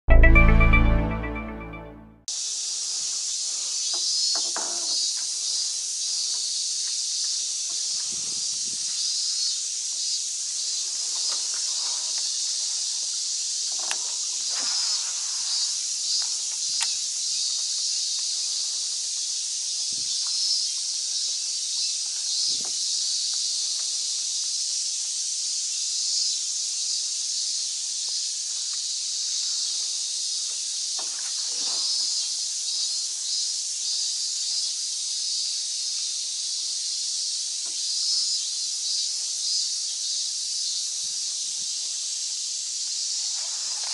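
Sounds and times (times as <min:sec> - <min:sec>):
insect chorus drone: 0:02.4 - 0:43.9.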